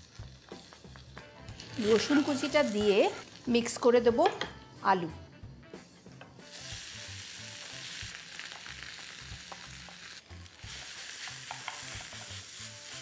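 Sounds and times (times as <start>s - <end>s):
food sizzling in hot oil: 0.0s - 3.9s, 6.4s - 13.0s.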